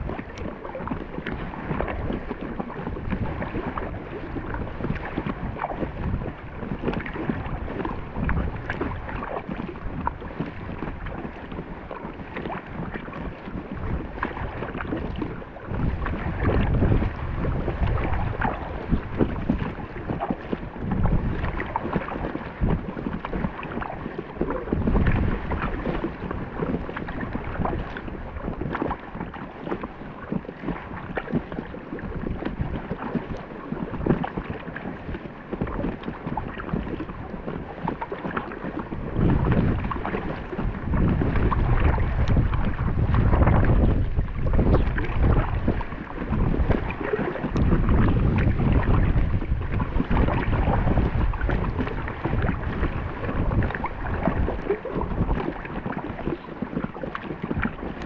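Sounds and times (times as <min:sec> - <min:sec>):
water splashing against kayak: 0:00.0 - 0:58.0
wind buffeting microphone: 0:00.0 - 0:58.0.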